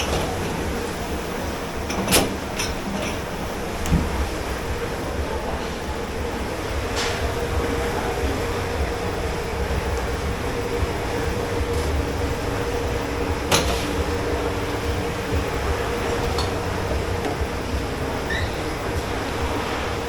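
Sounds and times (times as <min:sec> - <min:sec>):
kitchen machinery hum: 0:00.0 - 0:20.0.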